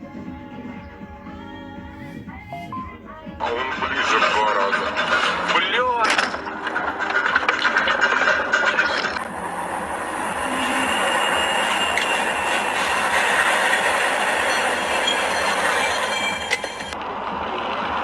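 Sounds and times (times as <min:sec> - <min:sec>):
rolling vehicle noise: 0:00.0 - 0:18.0
high-pitched squealing tones: 0:01.3 - 0:17.0.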